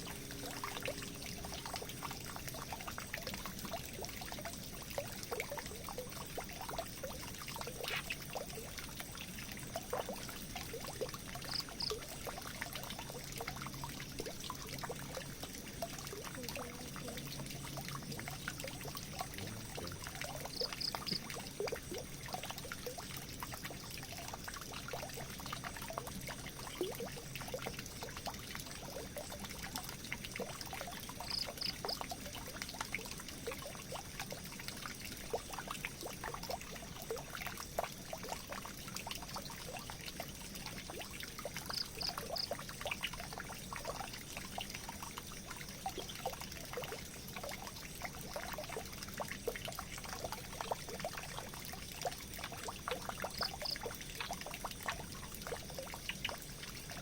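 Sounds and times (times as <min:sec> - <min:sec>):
small splashes and drips: 0:00.0 - 0:57.0
water pouring and trickling: 0:00.0 - 0:57.0.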